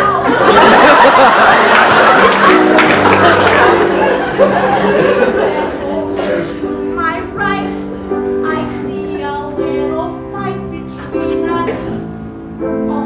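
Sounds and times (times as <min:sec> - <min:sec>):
grand piano chords: 0:00.0 - 0:13.0.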